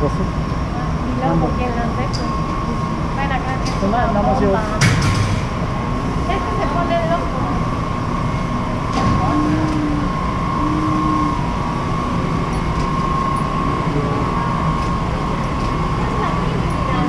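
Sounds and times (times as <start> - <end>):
electric scooter motor whine: 0.0 - 4.8, 5.6 - 17.0
lower hum: 0.0 - 17.0.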